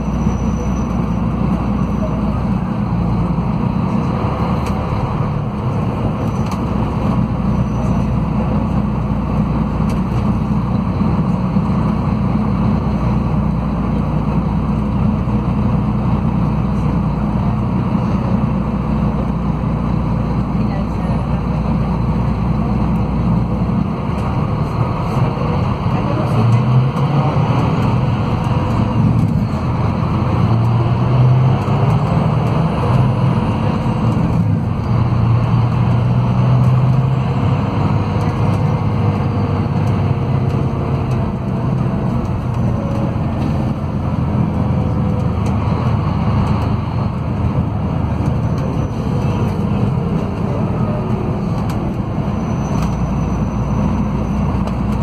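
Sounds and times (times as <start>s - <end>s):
diesel coach engine: 0.0s - 55.0s
road noise: 0.0s - 55.0s.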